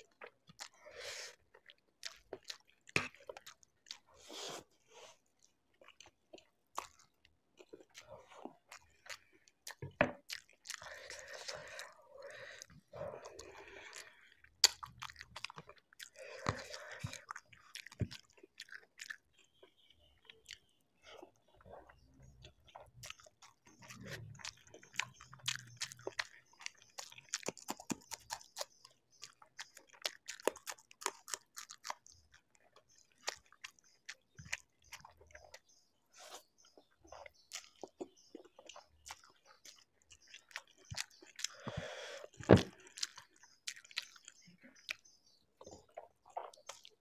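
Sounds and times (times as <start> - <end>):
close chewing of noodles: 0.0 - 47.0
lip smacks and squelches: 1.4 - 47.0.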